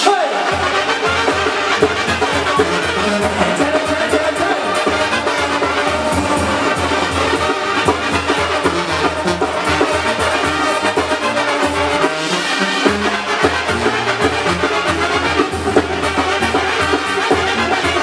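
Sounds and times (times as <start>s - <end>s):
brass band playing through a pa: 0.0s - 18.0s.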